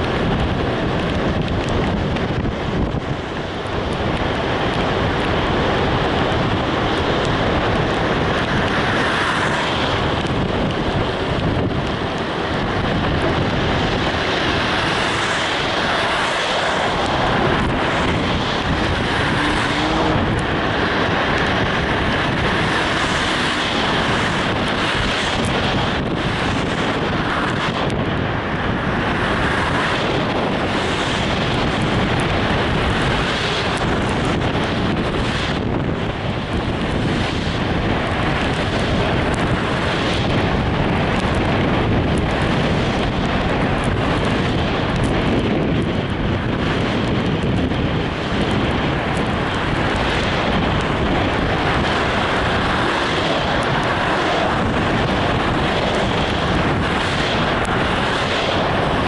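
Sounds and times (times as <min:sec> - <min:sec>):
moving vehicle noise: 0:00.0 - 0:59.0
wind over microphone: 0:00.0 - 0:59.0.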